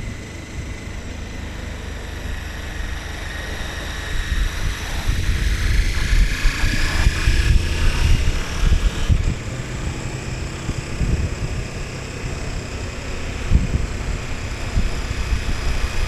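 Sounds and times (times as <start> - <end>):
motorcycle engine running: 0.0 - 16.0
wind noise on microphone: 1.6 - 16.0.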